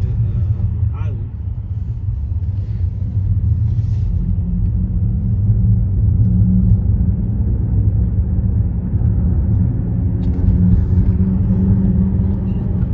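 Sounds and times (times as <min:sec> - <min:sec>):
road traffic on a bridge: 0:00.0 - 0:12.9.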